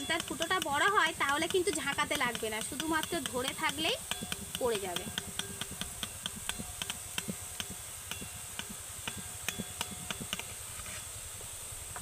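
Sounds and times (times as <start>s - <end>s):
batter drops ticking in oil: 0.0s - 10.7s
oil sizzling: 0.0s - 12.0s.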